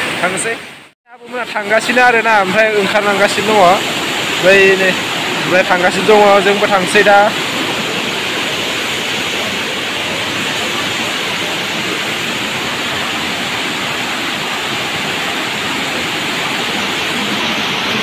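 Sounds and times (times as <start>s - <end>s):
waterfall rushing over rocks: 0.0s - 18.0s.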